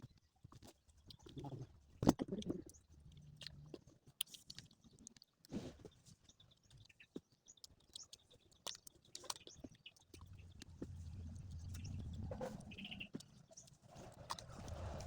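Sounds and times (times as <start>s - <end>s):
chewing with wet mouth clicks: 0.0s - 15.0s.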